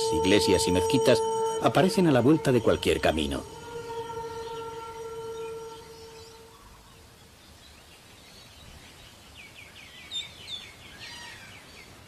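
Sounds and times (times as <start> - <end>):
birds chirping: 0.0 - 12.0
faint outdoor background: 0.0 - 12.0.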